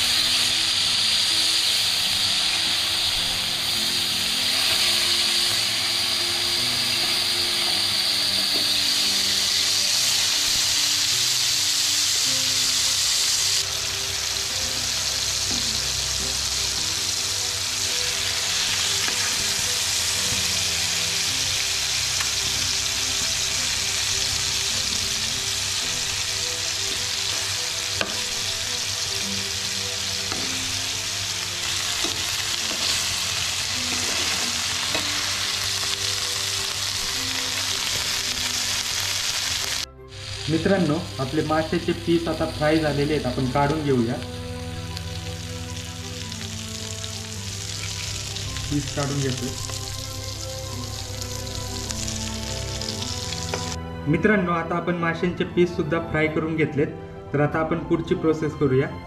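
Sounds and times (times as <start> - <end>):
fish sizzling in hot oil: 0.0 - 53.8.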